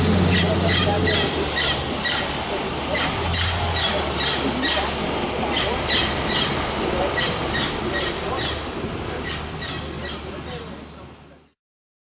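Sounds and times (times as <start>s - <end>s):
birds squawking: 0.2s - 10.5s.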